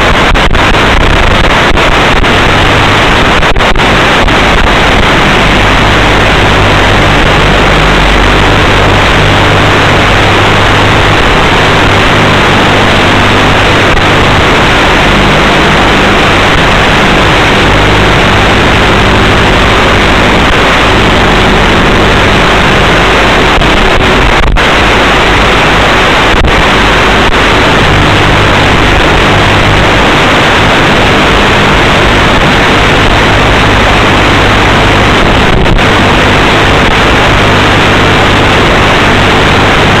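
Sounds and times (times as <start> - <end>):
loud static hiss: 0.0 - 40.0.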